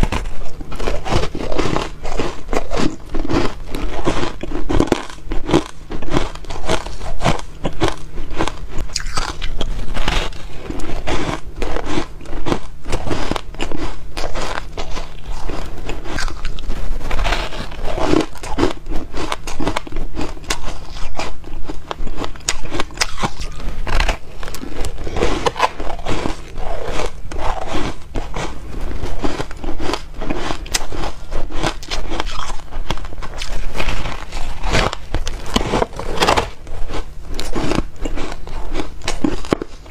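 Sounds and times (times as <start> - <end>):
crunching ice: 0.0 - 39.9.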